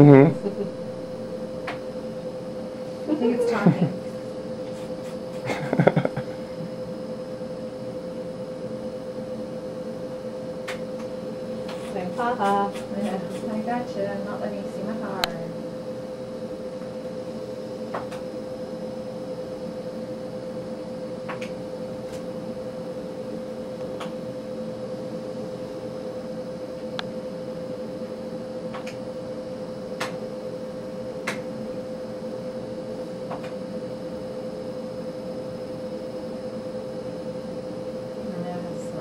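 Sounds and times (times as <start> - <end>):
electrical hum with constant tone: 0.0 - 39.0.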